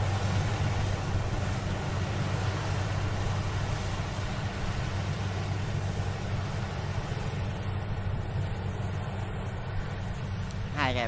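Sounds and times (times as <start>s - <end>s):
diesel engine droning: 0.0s - 11.0s
wind noise on microphone: 0.0s - 11.0s.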